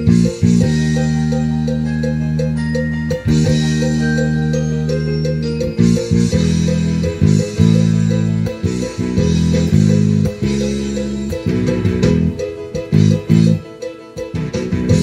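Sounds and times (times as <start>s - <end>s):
electric bass guitar notes: 0.0s - 13.7s, 14.3s - 15.0s.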